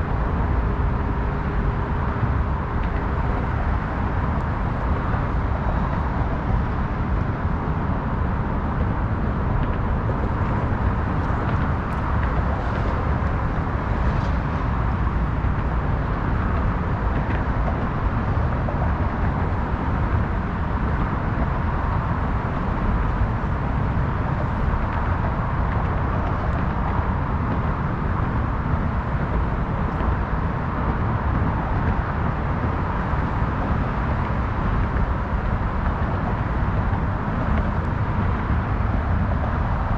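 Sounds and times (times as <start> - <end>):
road traffic roar: 0.0 - 39.9.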